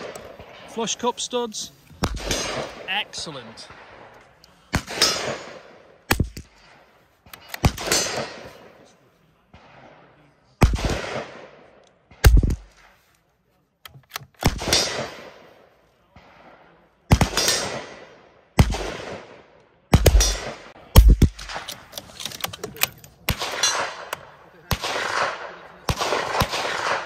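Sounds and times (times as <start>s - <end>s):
rifle shots echoing: 0.0s - 13.0s, 14.3s - 27.0s.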